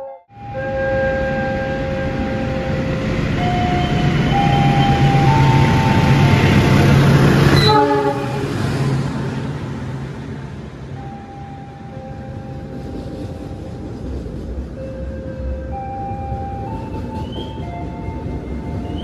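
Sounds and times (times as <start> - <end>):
locomotive engine drone: 0.0 - 19.0
wheels rumbling on rails: 0.3 - 19.0.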